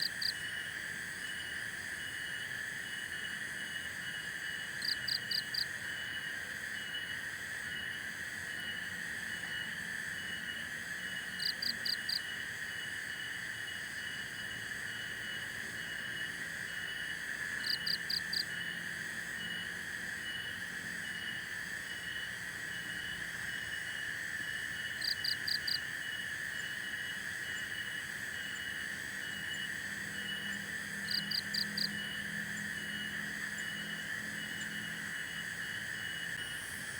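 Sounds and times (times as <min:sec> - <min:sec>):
insect chorus: 0:00.0 - 0:36.9.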